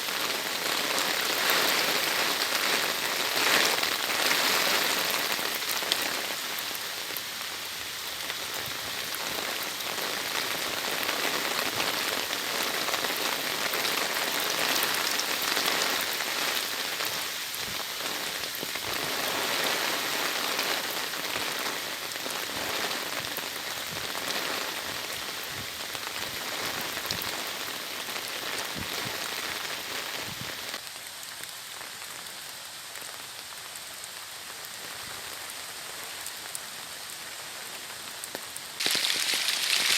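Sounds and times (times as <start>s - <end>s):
heavy rain falling: 0.0s - 30.8s, 34.1s - 39.9s.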